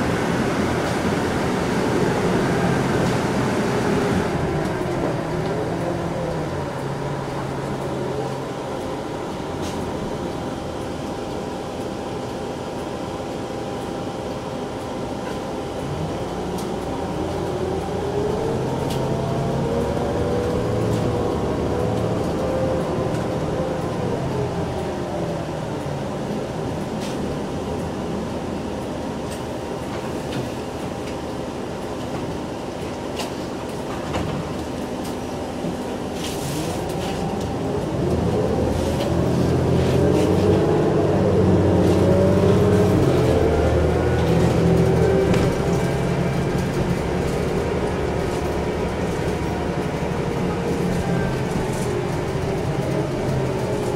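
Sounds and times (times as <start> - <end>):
bus engine whining: 0.0 - 53.9.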